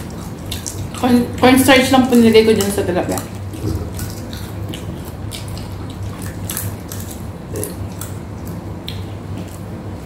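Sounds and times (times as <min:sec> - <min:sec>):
crunchy chewing and mouth smacks: 0:00.0 - 0:01.4, 0:02.5 - 0:10.0.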